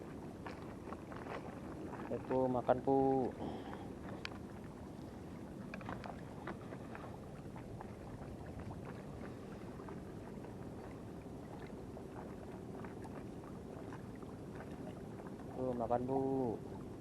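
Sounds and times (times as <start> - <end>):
sea water lapping and splashing: 0.0 - 17.0.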